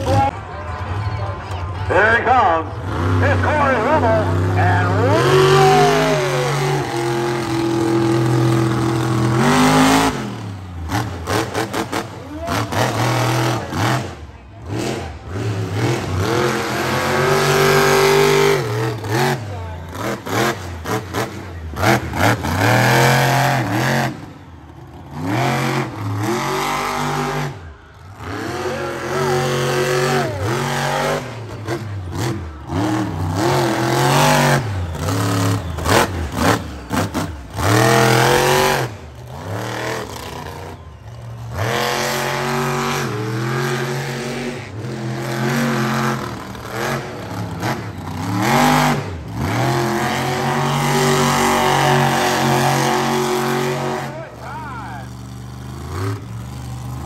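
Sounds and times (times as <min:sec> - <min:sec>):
monster truck engine revving: 0:00.0 - 0:57.0.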